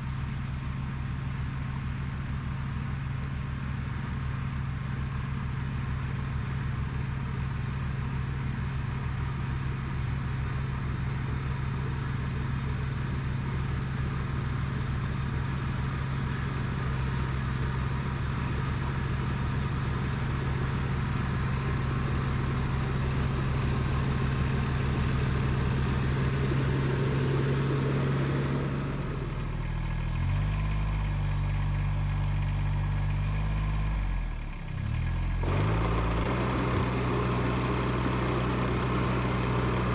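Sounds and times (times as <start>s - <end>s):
tractor diesel engine running: 7.2s - 39.9s.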